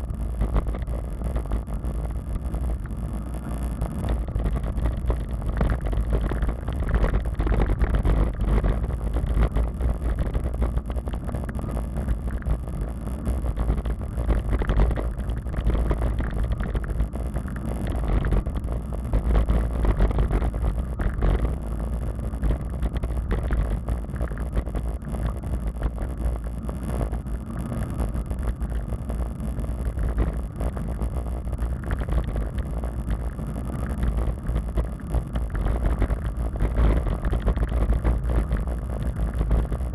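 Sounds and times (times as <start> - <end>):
bicycle tyre and road noise: 0.0 - 39.9.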